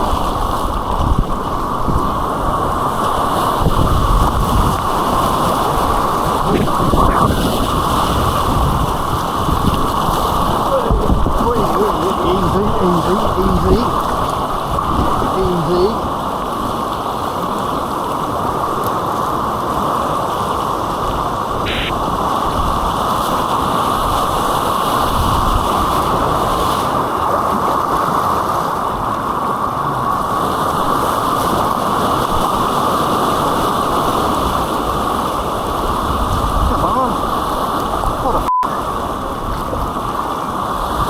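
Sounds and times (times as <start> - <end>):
white-water rapids rushing: 0.0 - 41.0.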